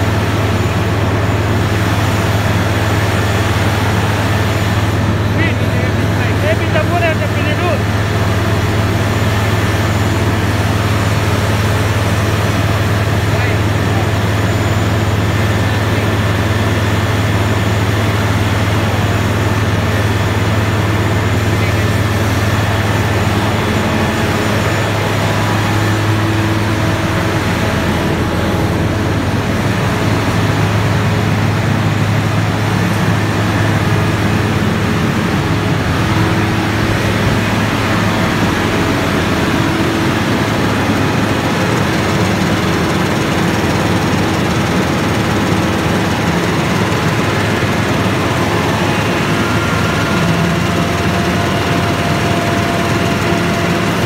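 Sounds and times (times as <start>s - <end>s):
machinery droning: 0.0s - 54.0s.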